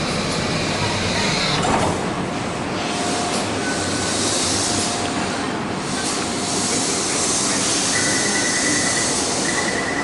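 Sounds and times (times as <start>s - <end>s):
electric train rumbling: 0.0s - 10.0s.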